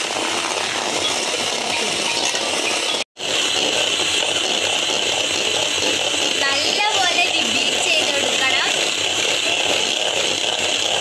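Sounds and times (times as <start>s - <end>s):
electric hand mixer whirring: 0.0s - 11.0s
beaters clinking against steel bowl: 0.4s - 11.0s.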